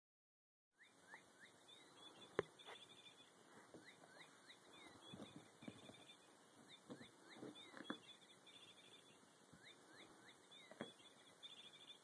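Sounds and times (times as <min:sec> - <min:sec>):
high bird-like chirps: 0:00.8 - 0:12.0.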